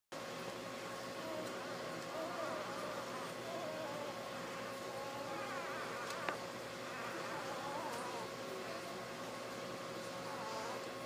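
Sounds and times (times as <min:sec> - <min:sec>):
steady high hum: 0:00.2 - 0:11.0.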